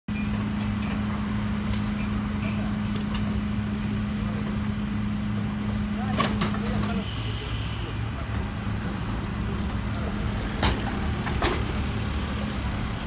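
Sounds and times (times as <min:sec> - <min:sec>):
truck engine humming: 0:00.1 - 0:13.0.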